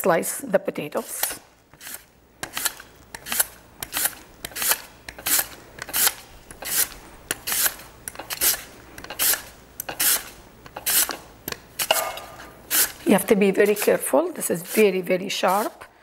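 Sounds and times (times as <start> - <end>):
mandoline slicer rasping scrapes: 1.0 - 11.2, 11.8 - 15.9.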